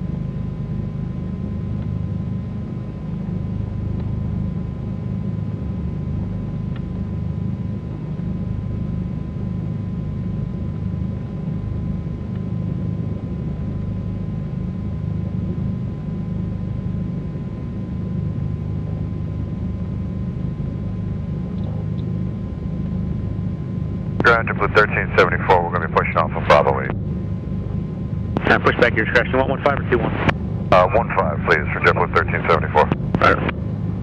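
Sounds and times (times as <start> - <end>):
aircraft engines rumbling: 0.0 - 34.0
faint steady whine: 0.0 - 34.0.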